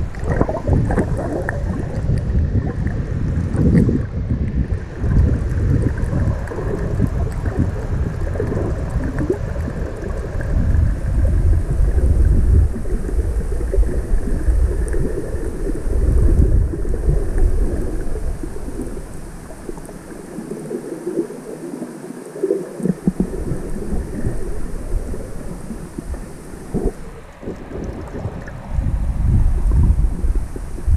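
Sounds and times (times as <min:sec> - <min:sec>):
muffled underwater churning rumble: 0:00.0 - 0:30.9.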